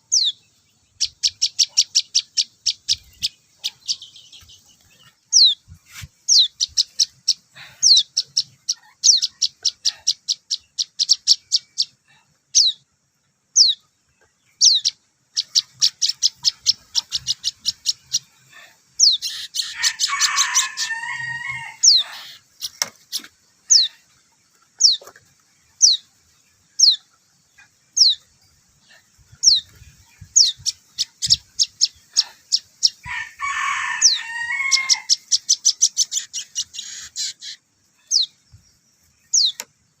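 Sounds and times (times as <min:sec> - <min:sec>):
young bird chirping: 0:00.0 - 0:12.9, 0:13.5 - 0:18.4, 0:19.0 - 0:33.1, 0:34.0 - 0:39.8
harsh scratchy bird calls: 0:01.0 - 0:12.0, 0:14.6 - 0:26.2, 0:26.8 - 0:28.2, 0:28.8 - 0:38.4, 0:39.0 - 0:40.0.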